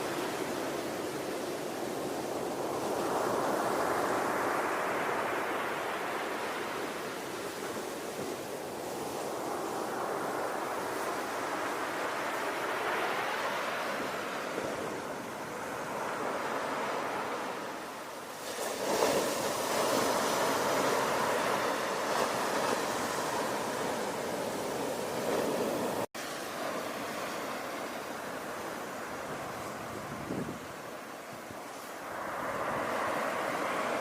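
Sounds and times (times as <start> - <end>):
ocean waves washing: 0.0 - 34.0.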